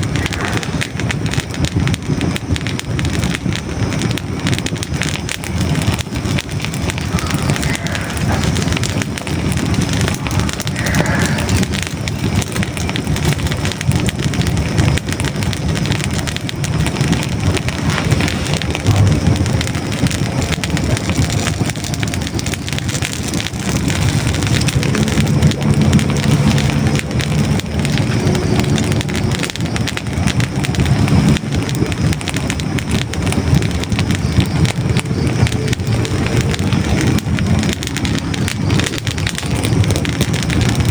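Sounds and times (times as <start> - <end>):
fire burning with crackles: 0.0 - 40.9.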